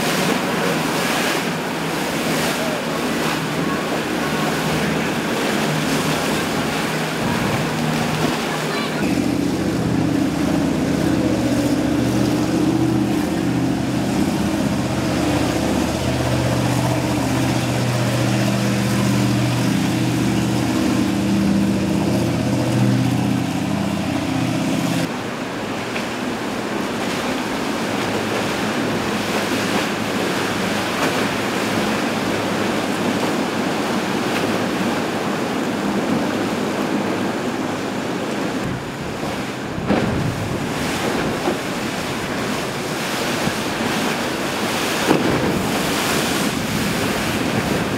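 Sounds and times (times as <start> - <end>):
boat engine running: 0.0 - 47.9
rushing splashing waves: 0.0 - 47.9
wind buffeting microphone: 0.0 - 47.9.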